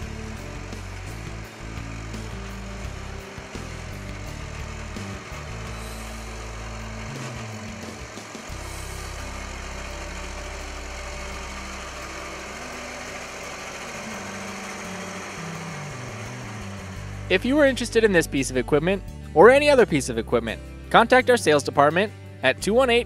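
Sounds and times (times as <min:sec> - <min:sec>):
tractor diesel engine idling: 0:00.0 - 0:21.3.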